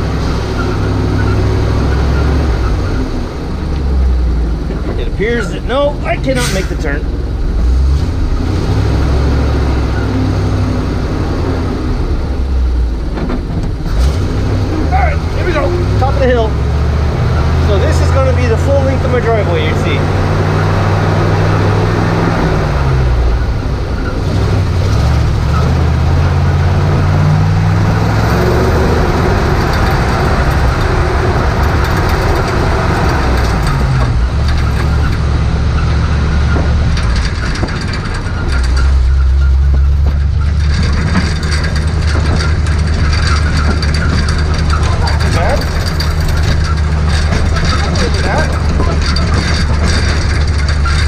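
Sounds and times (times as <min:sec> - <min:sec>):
truck driving on gravel: 0:00.0 - 0:51.0
truck engine under load: 0:00.0 - 0:51.0.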